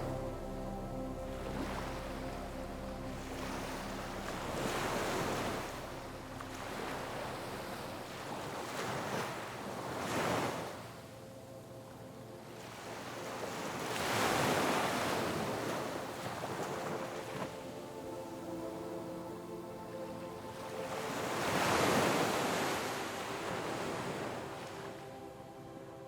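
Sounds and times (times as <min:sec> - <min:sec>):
ocean waves surging onto shore: 0:01.3 - 0:11.1, 0:12.0 - 0:26.0.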